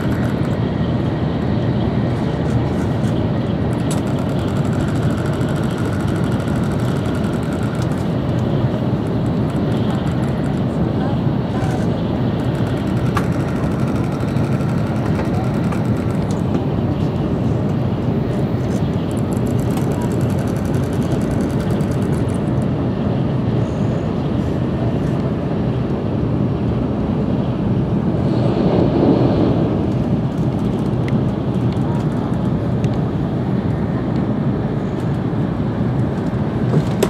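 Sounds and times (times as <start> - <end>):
train wheels rushing on rail: 0.0 - 37.0.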